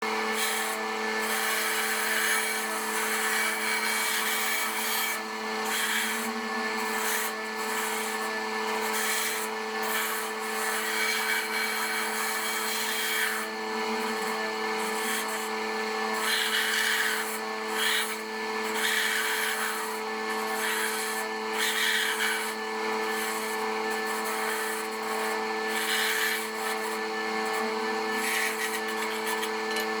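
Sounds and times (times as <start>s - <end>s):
electric saw cutting wood: 0.0s - 30.0s.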